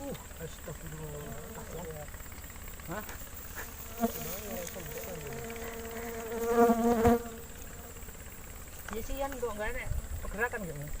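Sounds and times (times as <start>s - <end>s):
flying insect buzzing: 0.0s - 11.0s.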